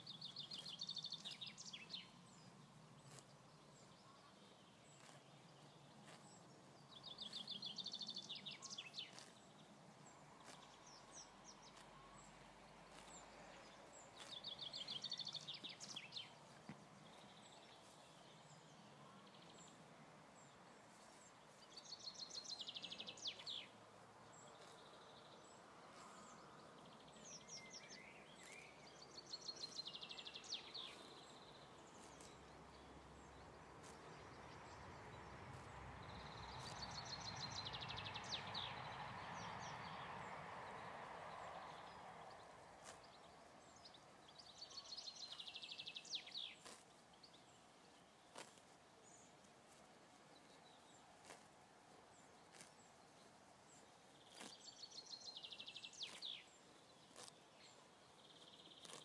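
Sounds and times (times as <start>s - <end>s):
horse tearing at grass: 2.4s - 3.9s, 4.8s - 18.9s, 19.8s - 26.2s, 28.3s - 29.0s, 29.6s - 44.2s, 45.2s - 59.0s.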